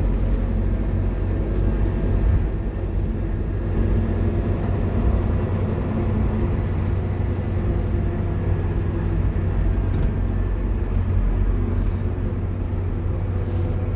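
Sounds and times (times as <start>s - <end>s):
bus diesel engine running: 0.0s - 13.9s.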